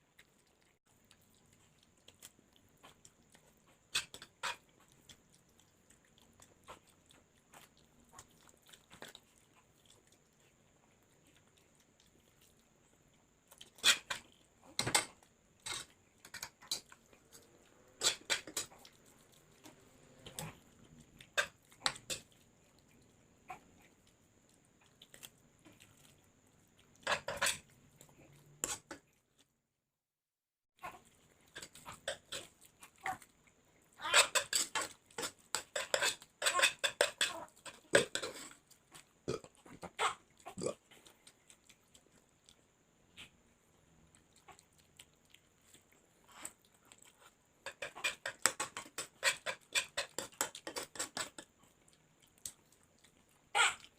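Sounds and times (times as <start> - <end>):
chewing and lip-smacking: 0.0 - 29.6, 30.8 - 53.9.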